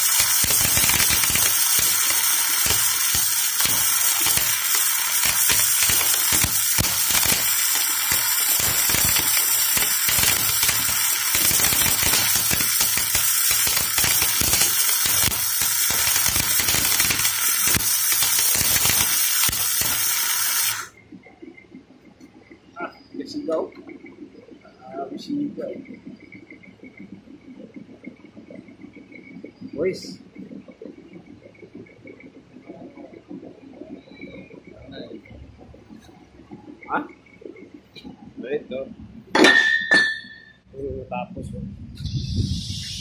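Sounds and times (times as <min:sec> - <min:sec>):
arc welding crackling: 0:00.0 - 0:39.4, 0:41.9 - 0:43.0.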